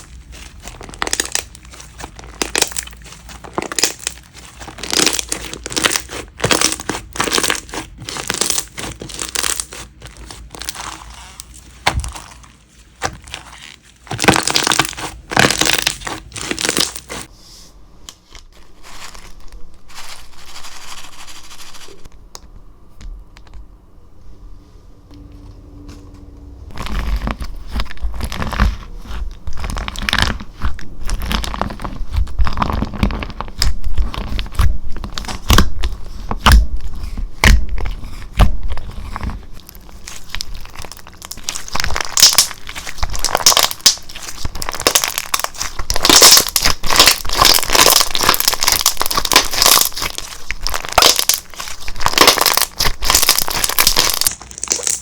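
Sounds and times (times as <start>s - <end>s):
slime squished by hand crackling: 0.0s - 12.4s, 13.0s - 17.3s, 27.0s - 55.0s.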